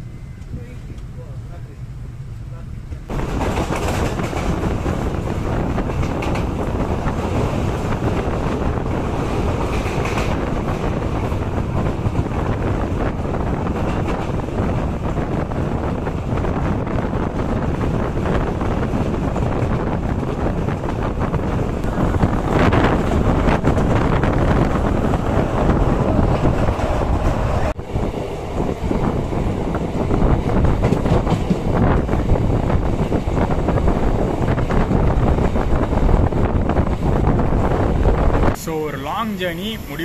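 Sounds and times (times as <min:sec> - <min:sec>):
train wheels rumbling on rails: 0:00.0 - 0:40.0
wind buffeting microphone: 0:03.1 - 0:39.2.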